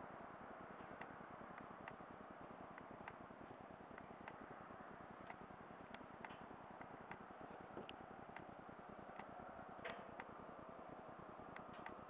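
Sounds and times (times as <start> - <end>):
faint steady hiss: 0.0 - 12.0
light irregular ticks: 0.0 - 12.0.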